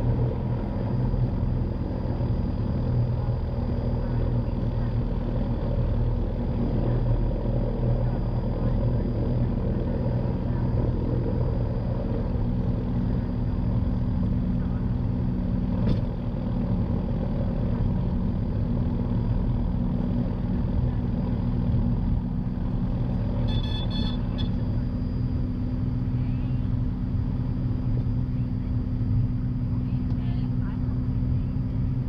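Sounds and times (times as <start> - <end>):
propeller engine droning: 0.0 - 32.0.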